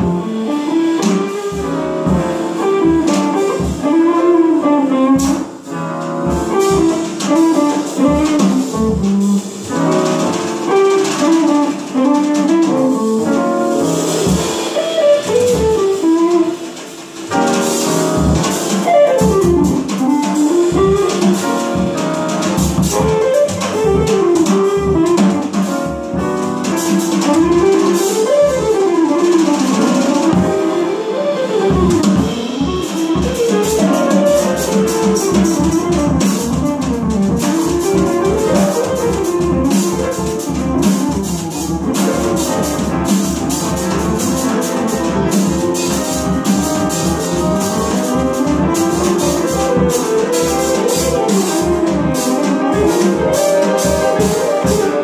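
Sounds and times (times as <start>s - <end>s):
drum kit: 0.0s - 55.0s
grand piano: 0.0s - 55.0s
jazz guitar melody: 0.0s - 55.0s.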